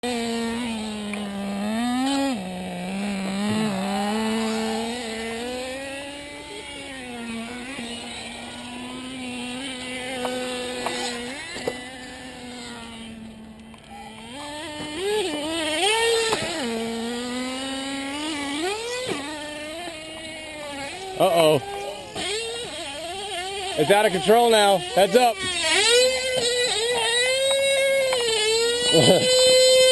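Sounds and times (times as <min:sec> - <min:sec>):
rc car motors whining: 0:00.0 - 0:29.9.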